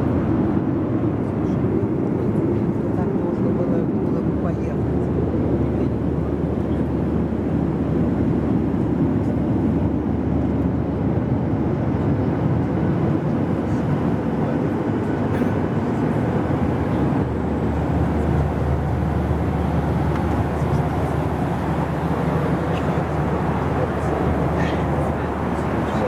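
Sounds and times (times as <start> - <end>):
airplane cabin engine noise: 0.0 - 26.0.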